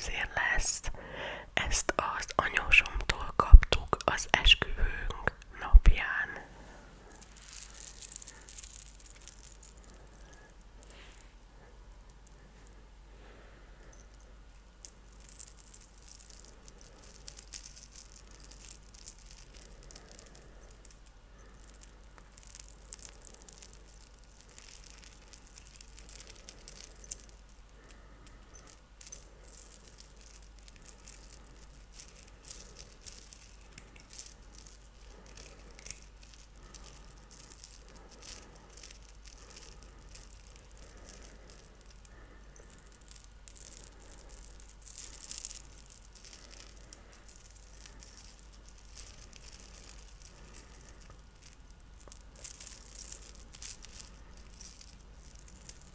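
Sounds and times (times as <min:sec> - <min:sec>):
rosary beads clicking: 0:01.6 - 0:05.4, 0:07.0 - 0:12.8, 0:13.8 - 0:55.9.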